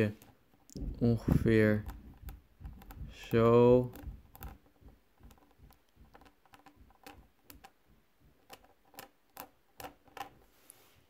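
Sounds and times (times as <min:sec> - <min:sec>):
pen tapping walnut shell: 0:00.2 - 0:10.4.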